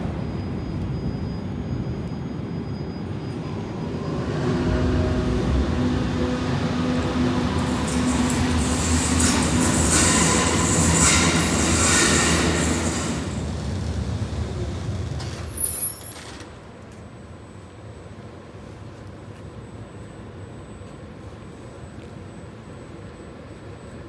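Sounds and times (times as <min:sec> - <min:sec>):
train wheels rolling and squealing: 0:00.0 - 0:24.0.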